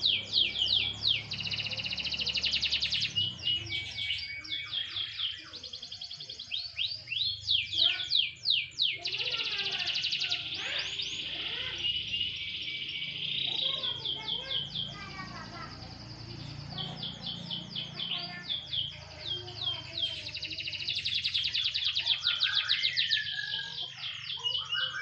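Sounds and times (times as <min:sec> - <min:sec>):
canary singing: 0:00.0 - 0:25.0.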